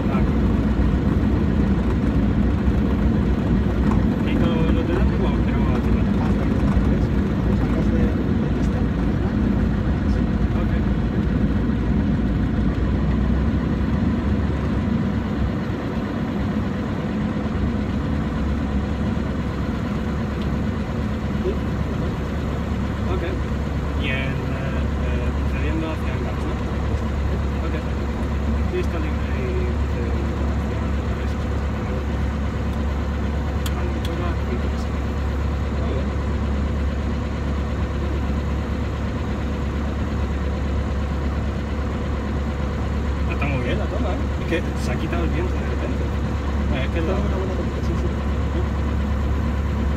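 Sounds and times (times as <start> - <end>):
aircraft engine and propeller: 0.0 - 49.9.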